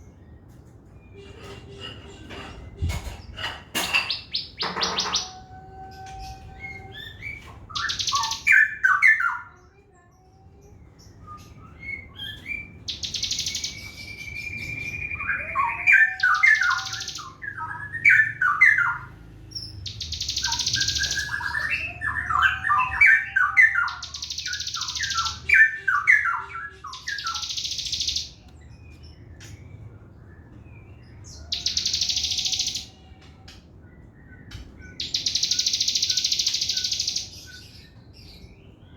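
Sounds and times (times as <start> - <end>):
bird singing fast song: 6.1 - 9.5, 11.0 - 38.9.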